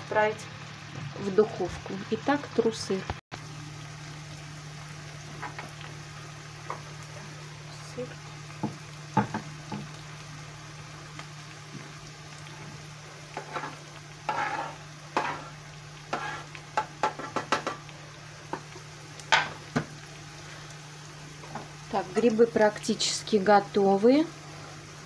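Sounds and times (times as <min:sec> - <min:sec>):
mushrooms sizzling in a frying pan: 0:00.0 - 0:25.0.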